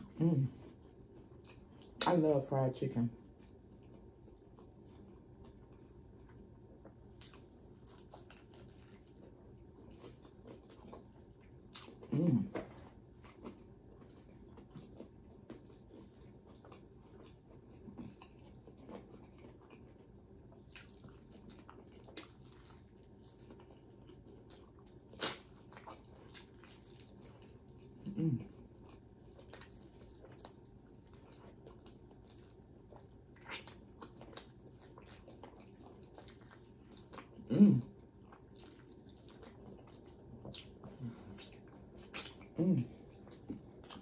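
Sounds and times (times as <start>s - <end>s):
biting and chewing crunchy food: 3.2s - 44.0s.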